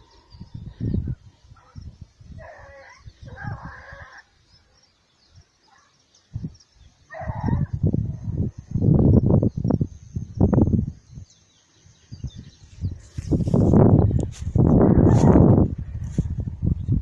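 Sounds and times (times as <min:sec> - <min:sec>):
wind buffeting microphone: 0:00.0 - 0:04.1, 0:06.3 - 0:11.4, 0:12.0 - 0:17.0.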